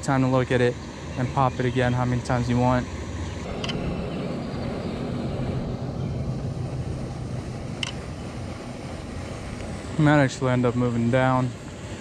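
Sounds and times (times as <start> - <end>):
faint hum: 0.0 - 12.0
low outdoor rumble: 0.0 - 12.0.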